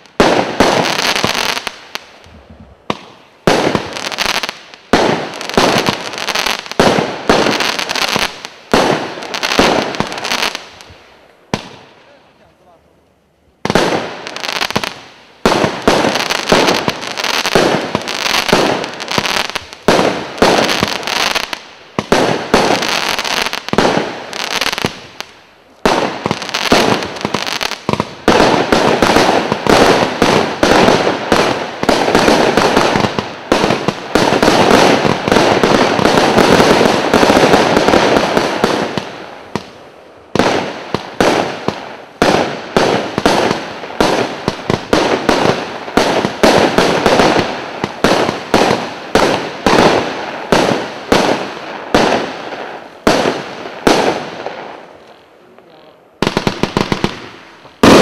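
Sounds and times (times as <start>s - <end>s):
firework barrage shots and bangs: 0.0s - 12.2s, 13.6s - 54.9s, 55.6s - 58.0s.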